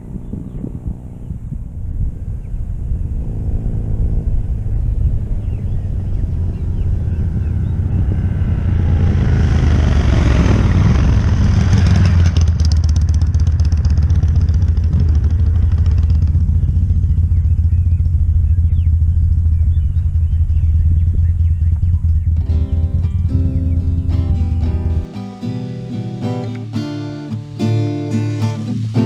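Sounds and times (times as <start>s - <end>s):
motorcycle engine running: 0.0s - 29.0s
rushing noise: 0.0s - 29.0s.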